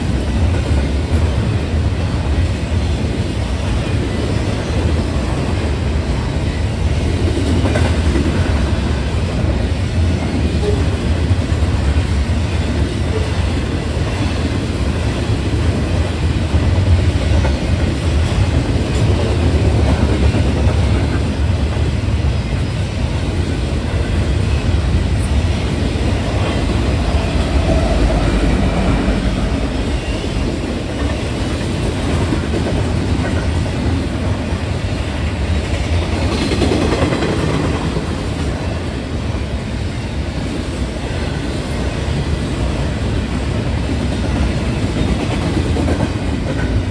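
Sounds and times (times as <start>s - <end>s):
train rumbling past: 0.0s - 46.9s
wheels clacking on rails: 0.0s - 46.9s.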